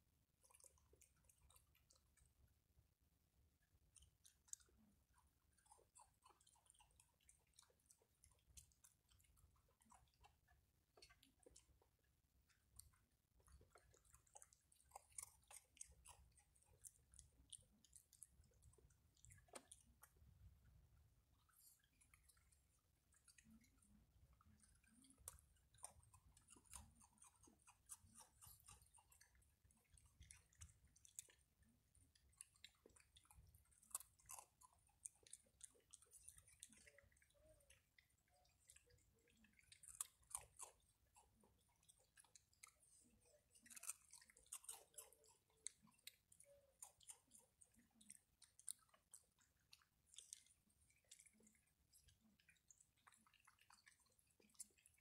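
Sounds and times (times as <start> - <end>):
raccoons chewing and crunching food: 0.0 - 55.0.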